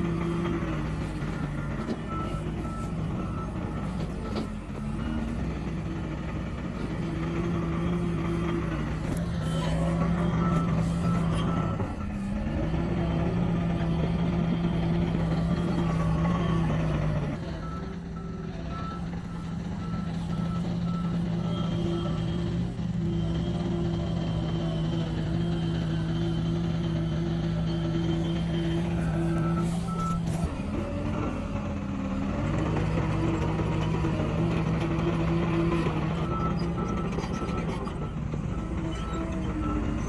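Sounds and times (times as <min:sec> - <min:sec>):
reversing alarm beeping: 0:00.0 - 0:13.8, 0:14.4 - 0:30.6, 0:34.3 - 0:40.0
diesel engine running: 0:00.0 - 0:40.0.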